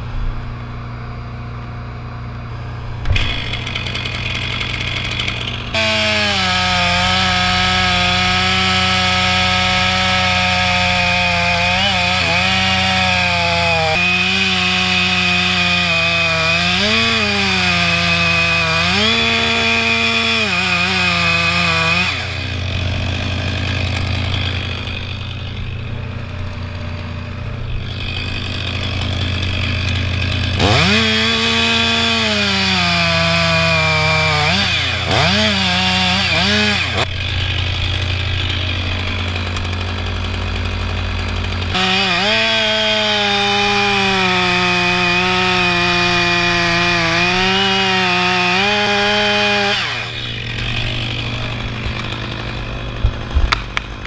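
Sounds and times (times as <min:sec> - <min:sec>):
chainsaw cutting through trunk: 0:02.2 - 0:54.0.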